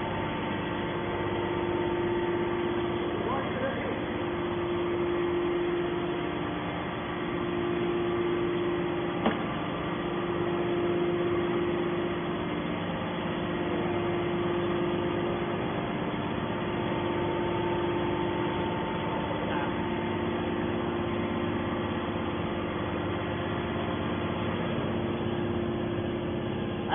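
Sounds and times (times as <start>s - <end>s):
hydraulic power unit humming: 0.0s - 26.9s.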